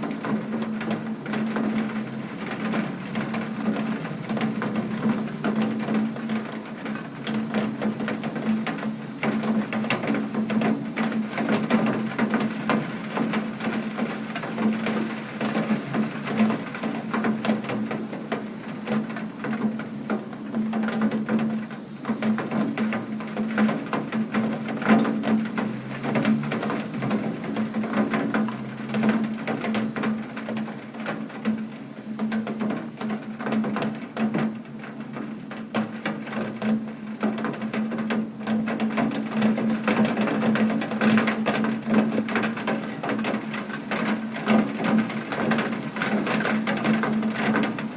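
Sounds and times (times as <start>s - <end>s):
heavy rain spattering: 0.0s - 47.9s.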